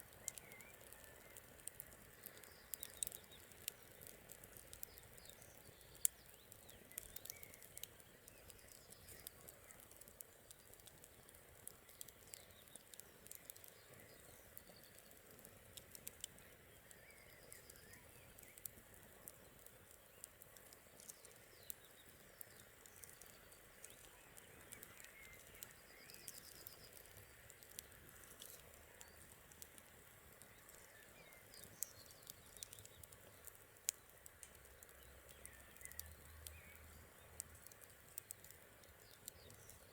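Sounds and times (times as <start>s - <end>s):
campfire crackling: 0.0s - 39.9s
faint birds chirping: 0.0s - 39.9s.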